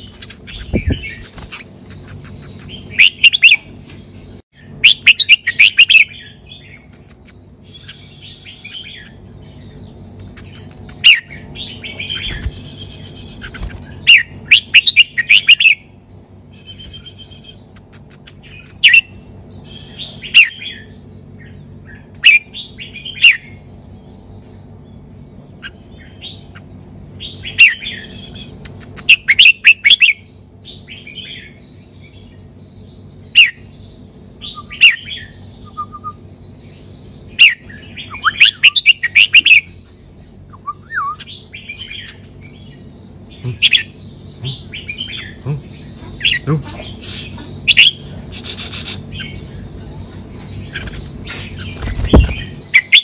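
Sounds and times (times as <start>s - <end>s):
bird singing warbling phrases: 0.0s - 53.0s.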